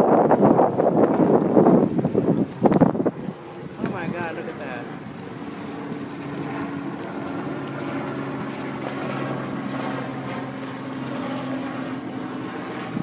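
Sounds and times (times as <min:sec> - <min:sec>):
boat engine humming: 0:00.0 - 0:13.0
water noise: 0:00.0 - 0:13.0
wind: 0:00.0 - 0:13.0.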